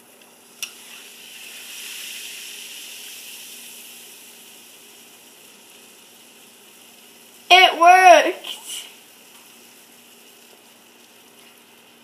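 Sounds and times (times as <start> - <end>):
baking soda and vinegar fizzing: 0.0 - 12.0.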